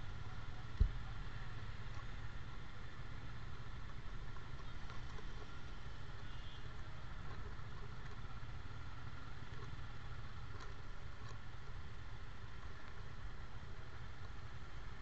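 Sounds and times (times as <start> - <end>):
motorcycle engines idling: 0.0 - 15.0.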